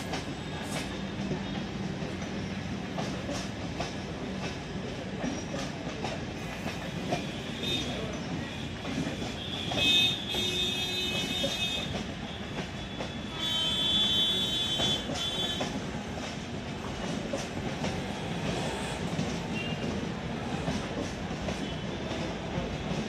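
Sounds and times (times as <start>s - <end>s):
train wheels clacking over joints: 0.0s - 23.0s.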